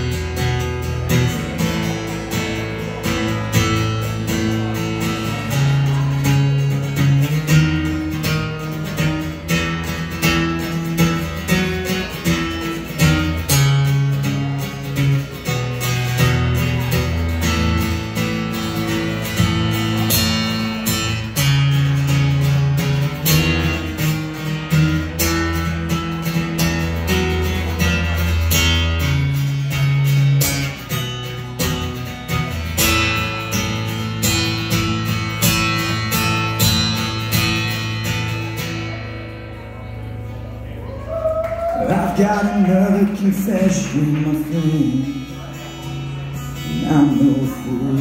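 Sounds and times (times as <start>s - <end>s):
acoustic guitar strumming chords: 0.0s - 40.8s, 41.9s - 48.0s.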